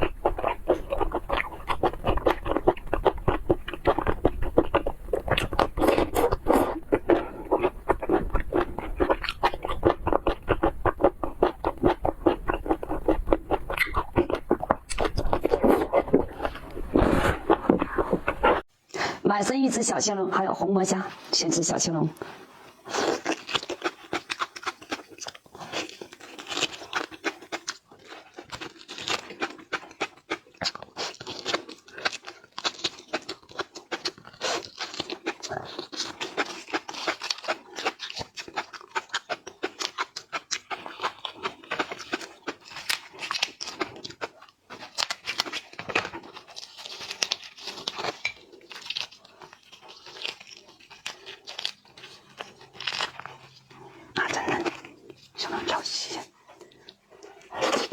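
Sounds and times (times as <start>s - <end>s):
lobster shell cracking and tearing: 0.0s - 18.5s, 22.9s - 55.8s
wet chewing: 0.0s - 57.9s.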